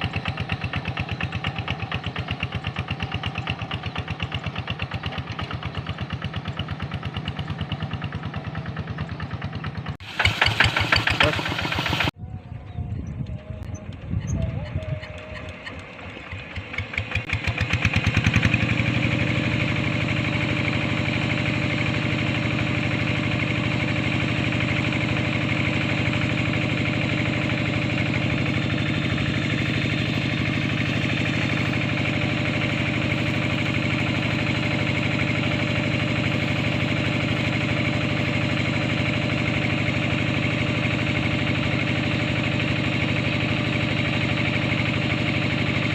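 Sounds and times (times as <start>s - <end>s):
diesel engine hand-cranked: 0.0s - 12.2s, 13.2s - 45.9s
diesel engine idling: 0.0s - 12.2s, 13.4s - 45.9s.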